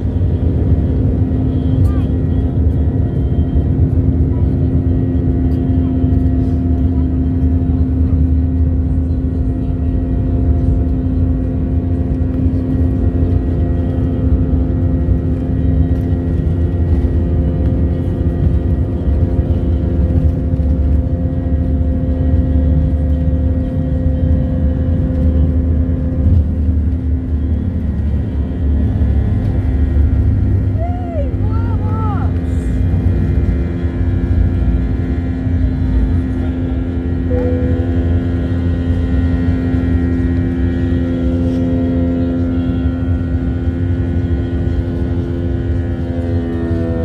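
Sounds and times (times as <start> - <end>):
airplane engines rumbling: 0.0 - 47.0.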